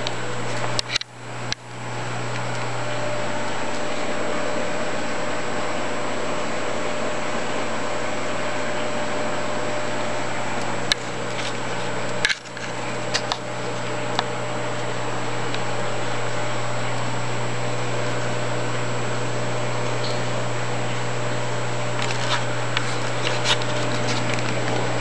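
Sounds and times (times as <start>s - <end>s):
aquarium pumps humming: 0.0s - 25.0s
low mains hum: 0.0s - 25.0s.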